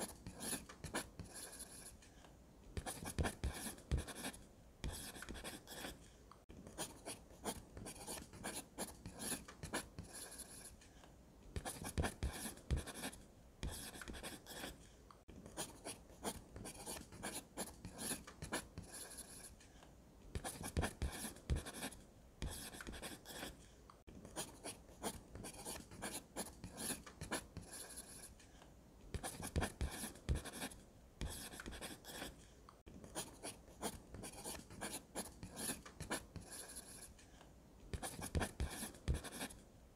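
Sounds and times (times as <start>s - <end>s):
pencil scratching on paper: 0.0s - 2.0s, 2.8s - 6.1s, 6.7s - 10.8s, 11.6s - 19.6s, 20.4s - 28.4s, 29.2s - 37.2s, 38.0s - 39.6s.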